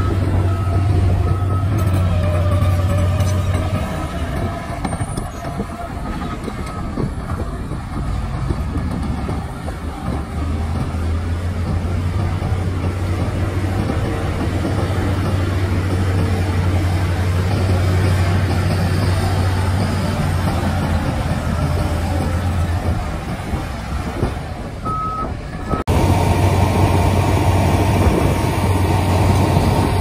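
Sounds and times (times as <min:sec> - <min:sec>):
heavy diesel engines droning: 0:00.0 - 0:30.0.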